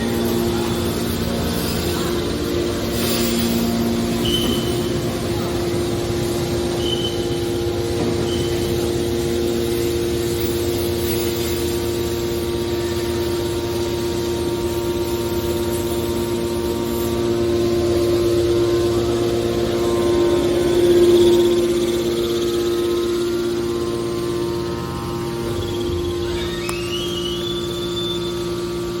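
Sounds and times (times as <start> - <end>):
baler motor and pump hum: 0.0 - 29.0.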